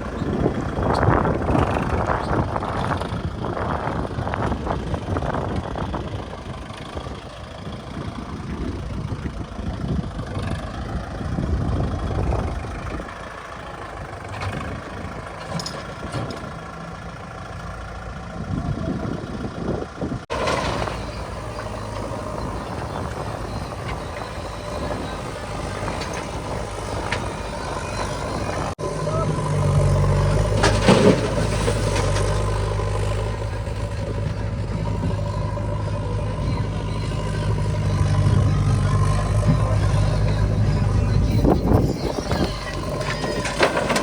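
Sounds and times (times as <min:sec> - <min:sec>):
diesel engine low rumble: 0:00.0 - 0:44.0.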